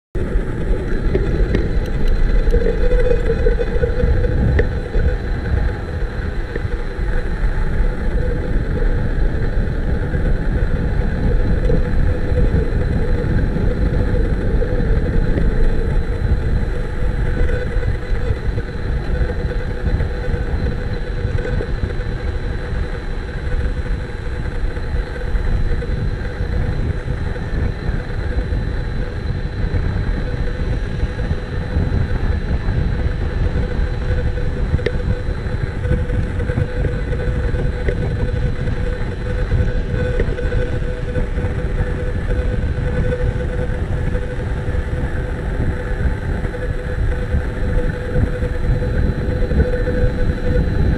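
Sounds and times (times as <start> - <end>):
heavy wind: 0.0 - 50.9.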